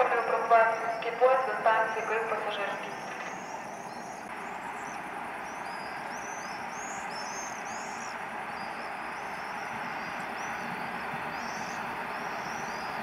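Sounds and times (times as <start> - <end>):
small birds chirping: 0.0 - 13.0
steady background hiss: 0.0 - 13.0.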